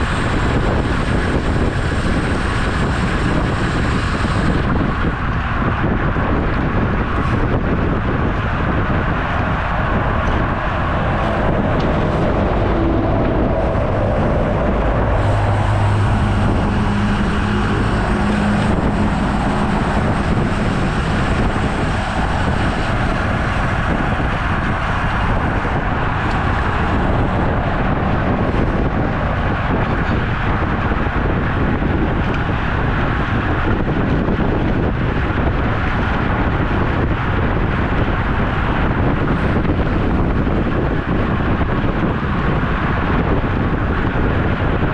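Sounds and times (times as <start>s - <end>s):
road and traffic noise: 0.0s - 44.9s
vehicle engine hum passing: 0.0s - 44.9s
wind rush over microphone: 0.0s - 44.9s.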